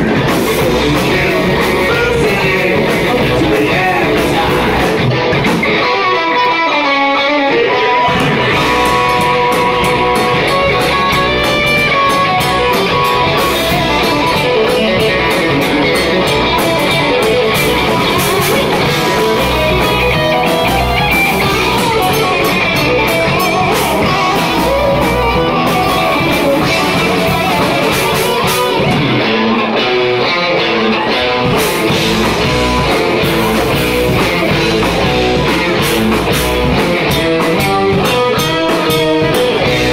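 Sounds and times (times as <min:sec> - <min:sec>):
heavy rock band playing: 0:00.0 - 0:39.9.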